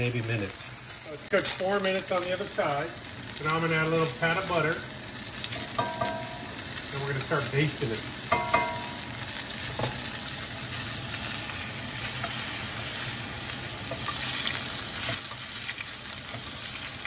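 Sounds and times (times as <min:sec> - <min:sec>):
steak sizzling in a skillet: 0:00.0 - 0:17.0.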